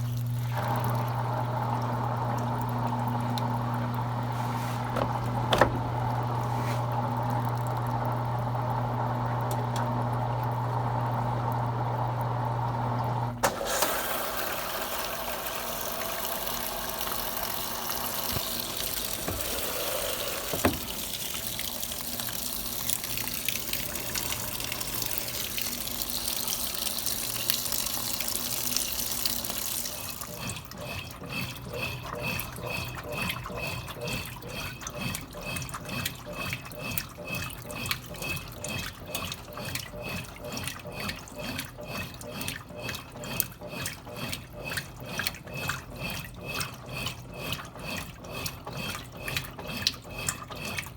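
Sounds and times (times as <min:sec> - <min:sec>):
washing machine electric hum: 0:00.0 - 0:50.9
water running into machine: 0:00.0 - 0:50.9.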